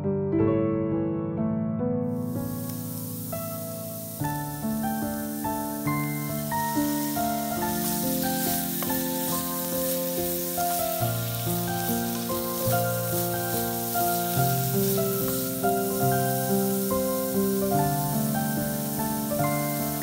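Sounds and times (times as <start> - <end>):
carrot sizzling in frying pan: 2.2 - 20.0
background music with held notes: 2.6 - 20.0.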